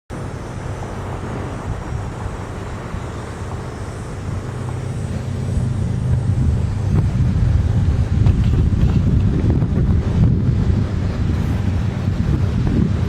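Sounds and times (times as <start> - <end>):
diesel locomotive engine drone: 0.1 - 13.0.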